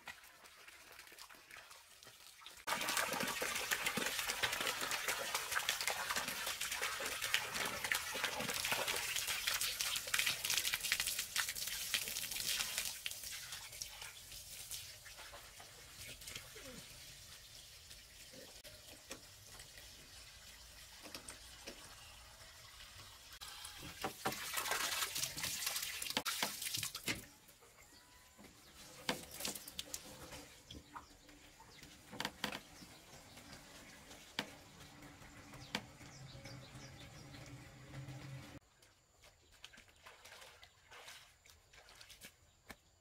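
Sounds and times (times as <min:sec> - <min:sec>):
water splashing from hose: 0:00.0 - 0:27.3, 0:28.7 - 0:38.6, 0:39.6 - 0:42.4.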